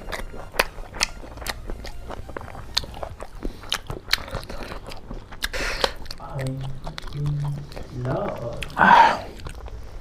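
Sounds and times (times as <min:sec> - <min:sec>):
wet mouth clicks and smacks: 0:00.0 - 0:09.8
person chewing food: 0:00.0 - 0:10.0.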